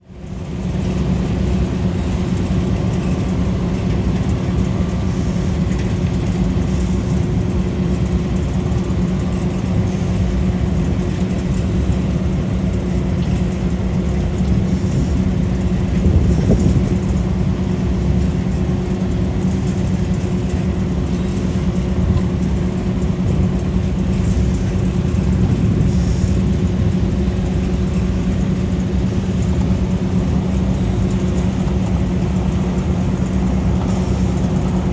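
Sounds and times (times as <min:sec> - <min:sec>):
skid steer engine running: 0:00.0 - 0:34.9.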